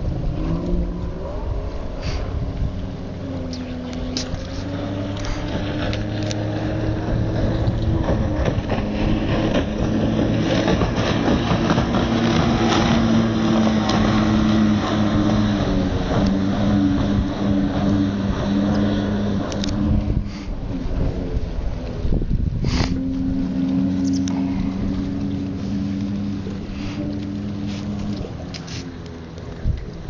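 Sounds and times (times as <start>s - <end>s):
outboard motor running: 0.0s - 30.0s
water rushing against hull: 0.0s - 30.0s
wind: 0.0s - 30.0s.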